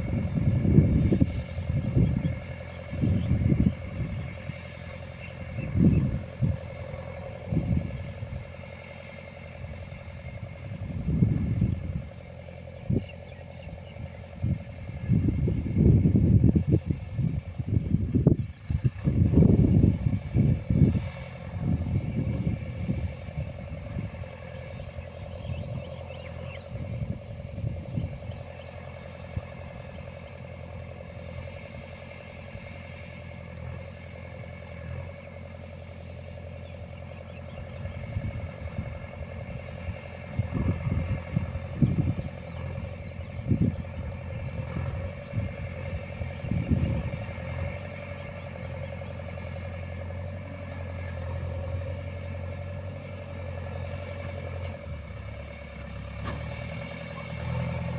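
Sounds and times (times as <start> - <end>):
insects chirping: 0.0 - 57.9
low machine hum: 0.0 - 57.9
low rumbles: 0.0 - 57.9.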